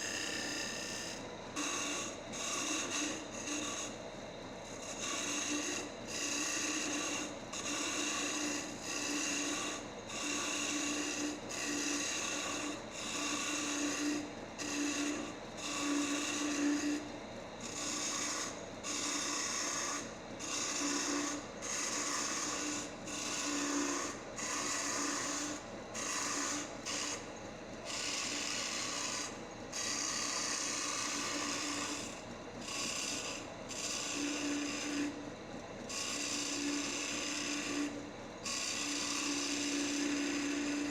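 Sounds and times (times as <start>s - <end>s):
chisel scraping spinning wood: 0.0s - 4.0s, 4.7s - 35.2s, 35.9s - 40.9s.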